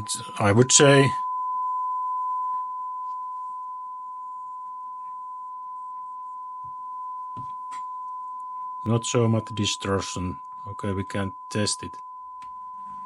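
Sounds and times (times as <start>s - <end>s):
steady test tone: 0.0s - 13.0s.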